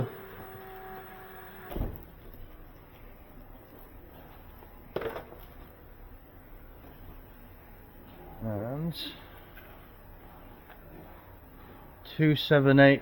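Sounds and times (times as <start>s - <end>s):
low room noise: 0.0s - 13.0s.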